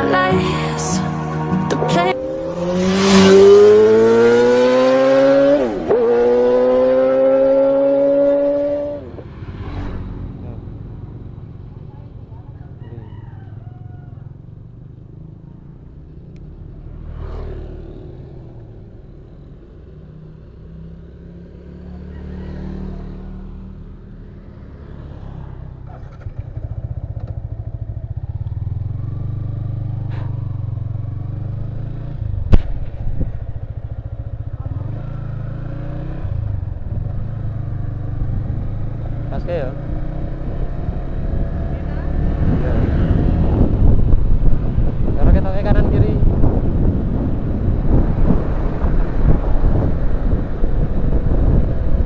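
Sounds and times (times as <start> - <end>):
motorcycle engine running: 1.9 - 24.2, 25.0 - 52.0.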